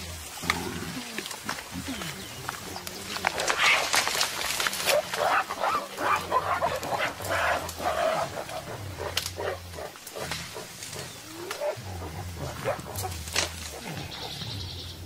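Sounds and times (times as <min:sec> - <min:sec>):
gorillas low rumbles: 0:00.0 - 0:15.0.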